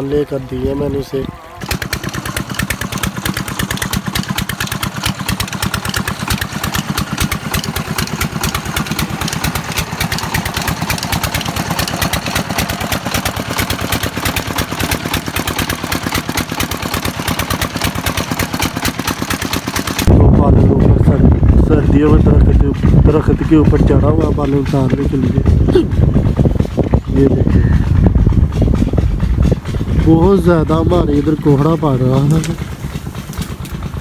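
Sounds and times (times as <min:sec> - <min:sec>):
diesel engine knocking: 0:00.0 - 0:34.0.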